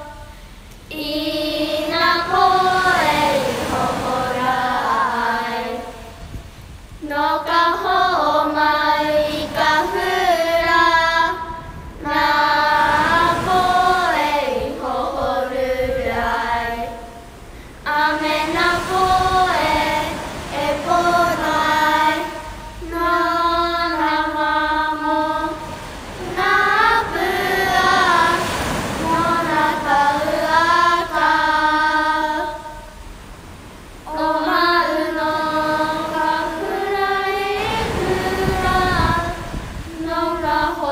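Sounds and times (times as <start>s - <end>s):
group of voices singing: 0.9s - 6.3s, 7.0s - 33.0s, 34.1s - 40.9s.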